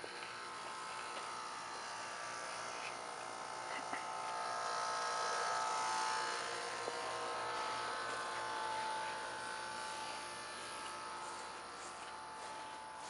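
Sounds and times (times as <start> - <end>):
buzzing hum with held tones: 0.0 - 13.0.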